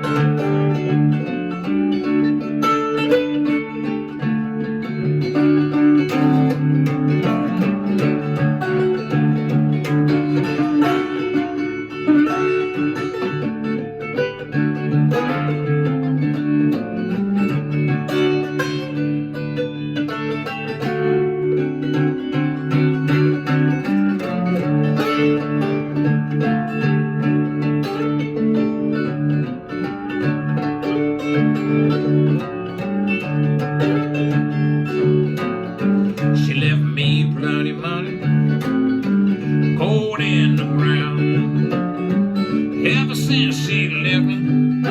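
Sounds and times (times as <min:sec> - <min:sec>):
blues guitar playing: 0:00.0 - 0:44.9.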